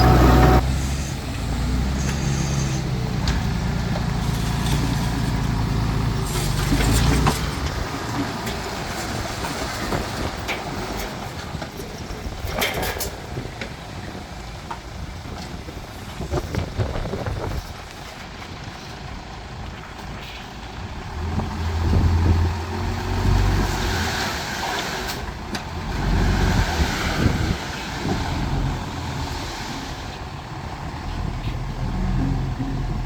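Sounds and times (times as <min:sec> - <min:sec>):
heavy machinery diesel engine: 0:00.0 - 0:33.0.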